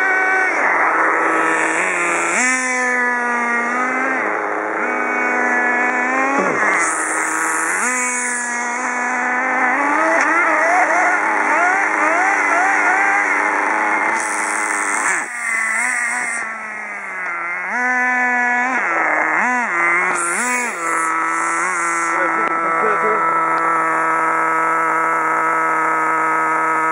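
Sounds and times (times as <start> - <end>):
small nitro engines revving: 0.0 - 26.9.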